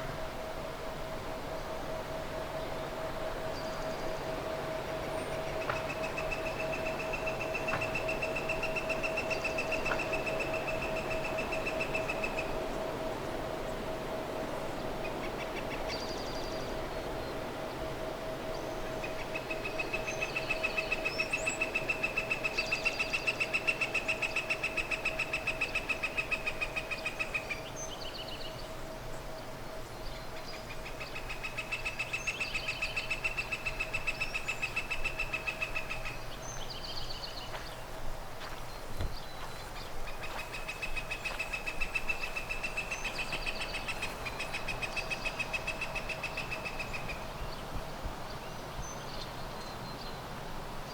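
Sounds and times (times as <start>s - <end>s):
steady hum: 0.0s - 50.9s.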